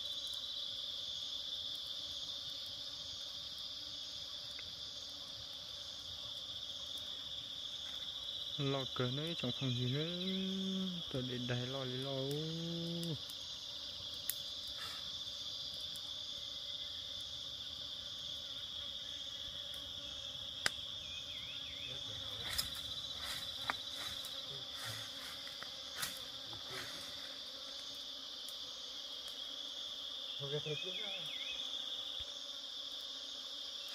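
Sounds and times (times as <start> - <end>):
insect chorus drone: 0.0 - 33.9.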